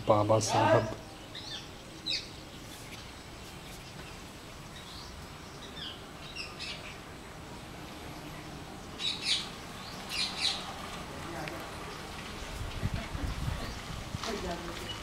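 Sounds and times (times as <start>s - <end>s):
faint steady background noise: 0.0s - 15.0s
wild birds chirping: 0.0s - 15.0s.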